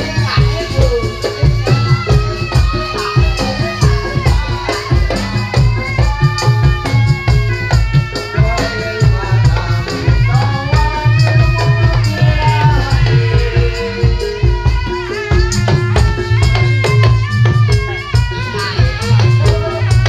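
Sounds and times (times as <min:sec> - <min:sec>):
drums beating fast rhythm: 0:00.0 - 0:20.0
rattling percussion: 0:00.0 - 0:20.0
wavering lead melody: 0:00.0 - 0:20.0.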